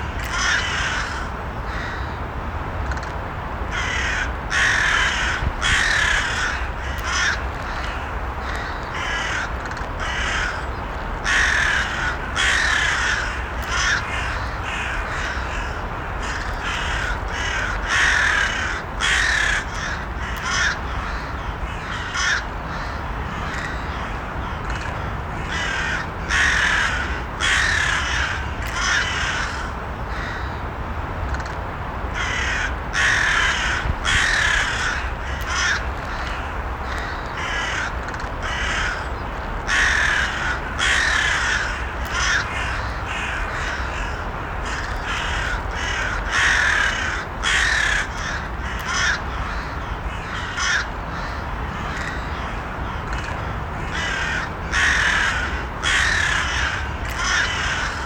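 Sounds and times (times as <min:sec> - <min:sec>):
crows cawing: 0:00.0 - 0:02.2, 0:03.7 - 0:30.6, 0:32.2 - 0:58.0
low background noise: 0:00.0 - 0:58.0.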